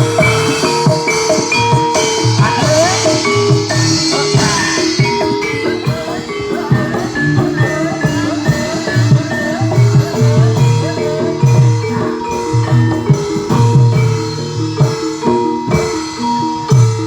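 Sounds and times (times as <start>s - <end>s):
hand drum strokes: 0.0s - 17.0s
metal-keyed gamelan notes: 0.0s - 17.0s.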